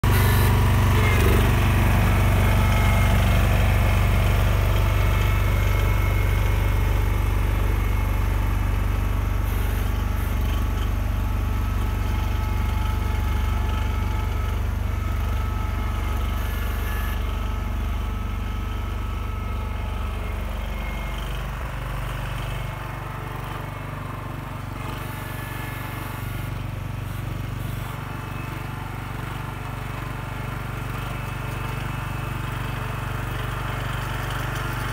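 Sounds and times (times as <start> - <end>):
garden tractor engine running: 0.0 - 34.9.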